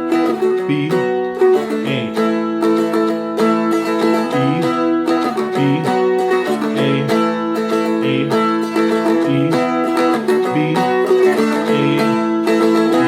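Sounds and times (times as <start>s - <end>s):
strummed dulcimer chords: 0.0s - 13.0s.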